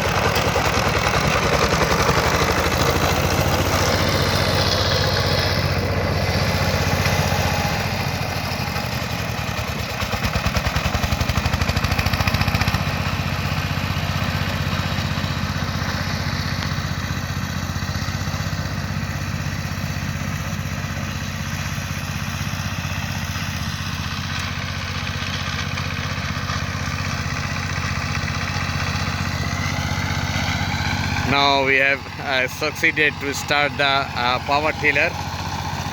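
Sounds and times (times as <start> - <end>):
diesel tiller engine running: 0.0 - 35.9.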